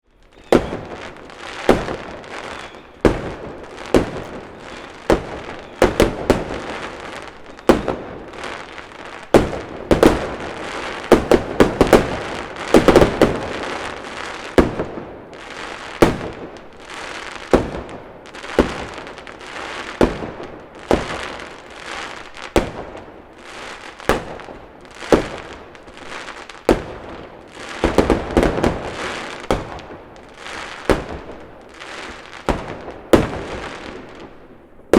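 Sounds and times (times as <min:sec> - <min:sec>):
firework crackling: 0:00.1 - 0:34.9
firework bangs: 0:00.2 - 0:34.9.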